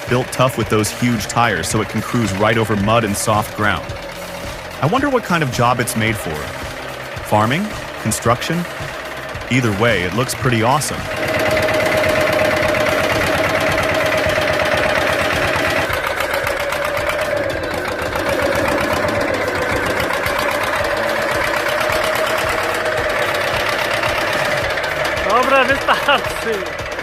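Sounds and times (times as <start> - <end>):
diesel tractor engine running hard: 0.0 - 27.0.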